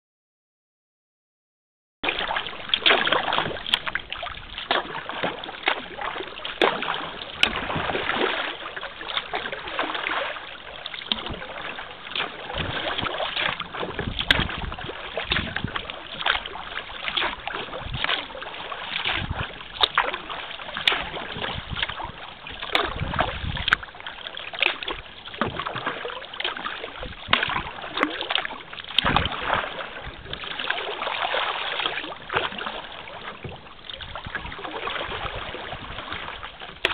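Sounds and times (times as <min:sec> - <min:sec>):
paddle splashing in water: 0:02.0 - 0:36.9
water dripping and trickling: 0:02.1 - 0:36.9.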